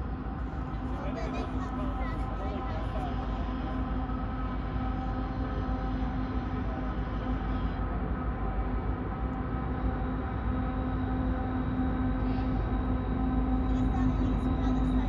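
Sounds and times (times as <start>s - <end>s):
droning hum: 0.0s - 15.0s
train passing with low rumble: 0.0s - 15.0s.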